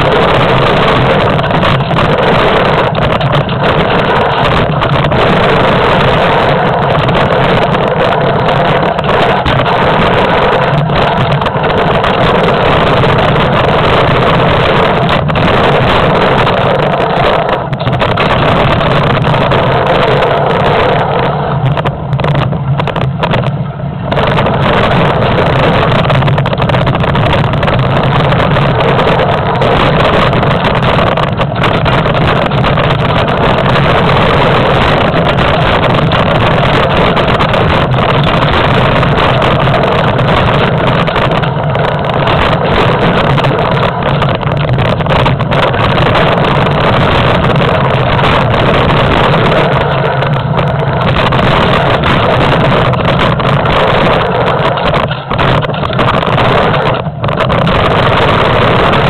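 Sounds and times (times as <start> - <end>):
bike rattling on rough trail: 0.0 - 59.0
wind rushing over microphone: 0.0 - 59.0.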